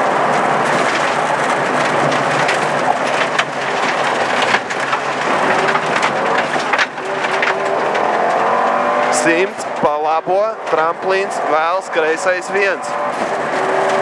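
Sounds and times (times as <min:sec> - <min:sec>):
car engine: 0:00.0 - 0:14.0
tyres rushing on loose gravel: 0:00.0 - 0:14.0.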